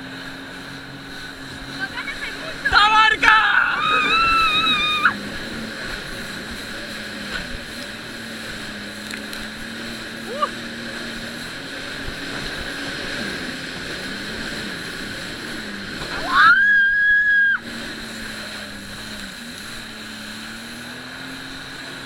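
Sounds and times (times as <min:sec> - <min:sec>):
jet ski engine whining: 0:00.0 - 0:22.0
loud rising whine: 0:00.0 - 0:22.0.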